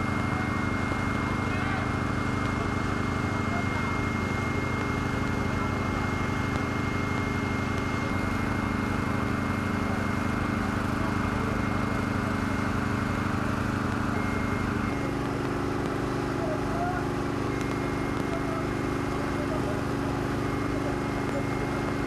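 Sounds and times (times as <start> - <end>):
diesel engines droning: 0.0 - 22.0
faint steady whine: 0.0 - 22.0.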